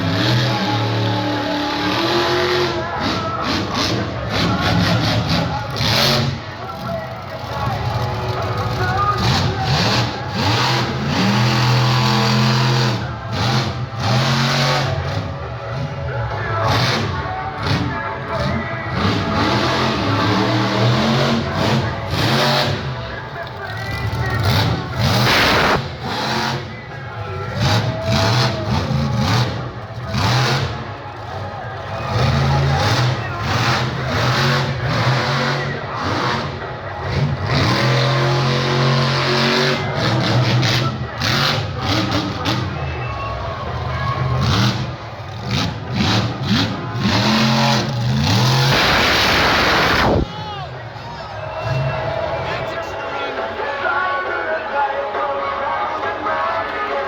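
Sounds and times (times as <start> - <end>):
monster truck engine revving: 0.0 - 52.8.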